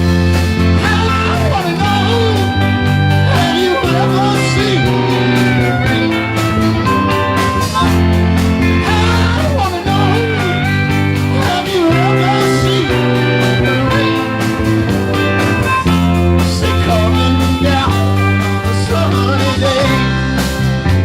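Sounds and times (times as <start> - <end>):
live rock band playing: 0.0 - 21.0
person singing: 0.6 - 8.1, 8.7 - 14.9, 15.7 - 20.3.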